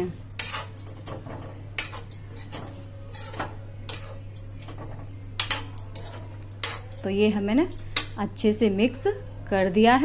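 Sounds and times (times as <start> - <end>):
metal spoon scraping a pan: 0.0 - 9.2.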